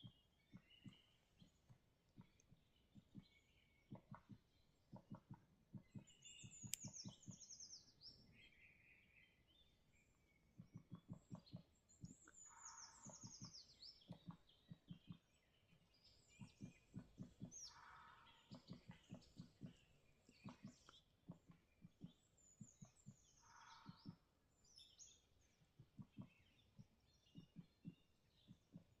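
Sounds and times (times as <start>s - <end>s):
bird chirps and calls: 0.0s - 29.0s.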